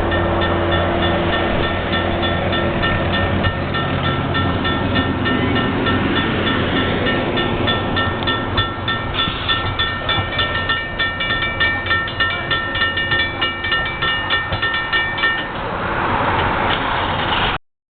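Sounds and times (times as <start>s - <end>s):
high squeal of train wheels: 0.0s - 16.3s
train wheels clicking over rail joints: 0.0s - 17.6s.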